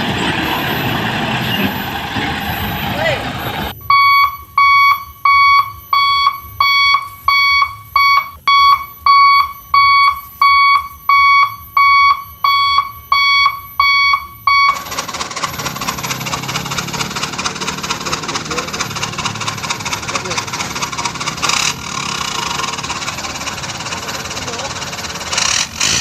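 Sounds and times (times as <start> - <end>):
truck engine noise: 0.0 - 26.0
truck reversing alarm beeping: 0.0 - 26.0.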